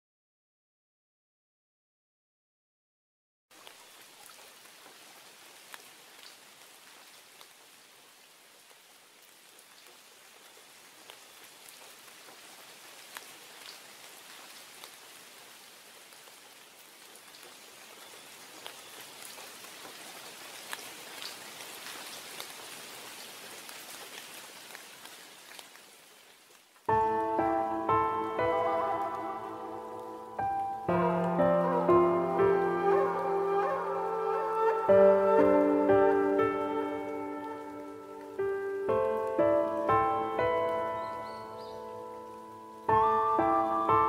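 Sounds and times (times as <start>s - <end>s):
rain hissing: 3.5s - 44.0s
raindrops ticking: 8.6s - 44.0s.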